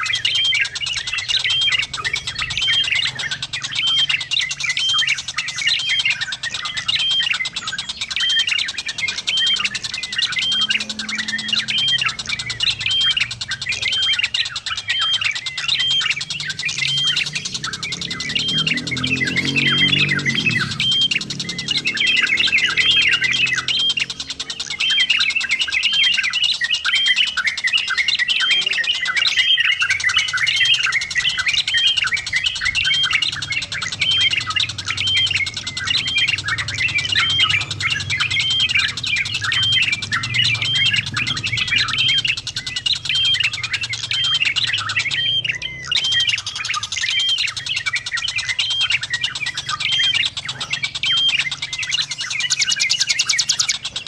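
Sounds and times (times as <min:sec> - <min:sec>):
bird chattering calls: 0:00.0 - 0:54.0.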